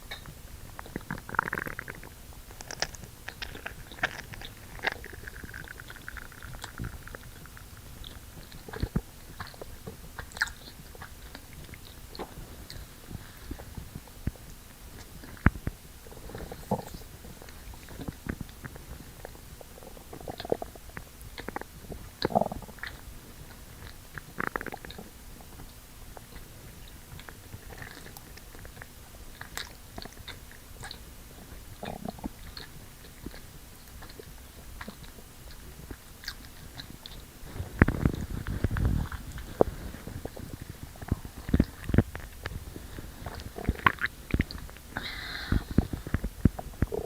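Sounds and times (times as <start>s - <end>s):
stomach gurgling: 0.0s - 47.0s
stomach rumble: 0.0s - 47.0s.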